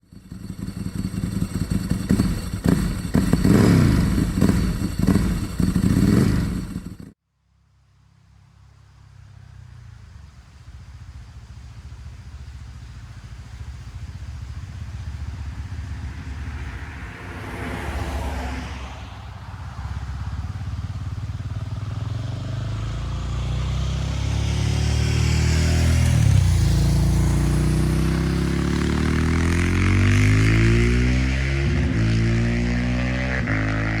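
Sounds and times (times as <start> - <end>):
motorcycle engine revving: 0.0 - 7.2, 9.6 - 34.0.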